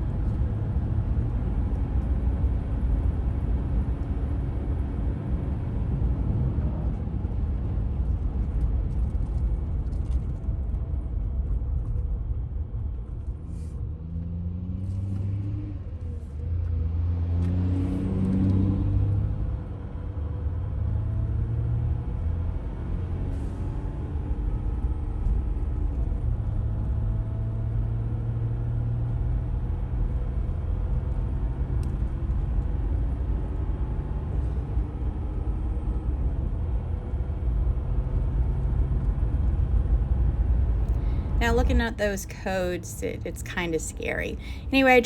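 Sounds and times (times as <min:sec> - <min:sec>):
road noise: 0:00.0 - 0:45.0.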